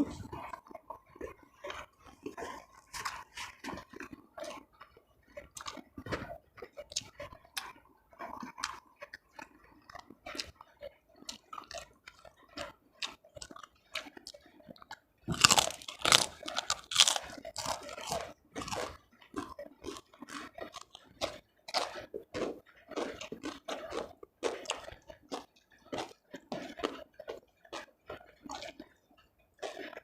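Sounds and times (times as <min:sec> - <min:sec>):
crunchy chewing of food: 0:00.0 - 0:30.0.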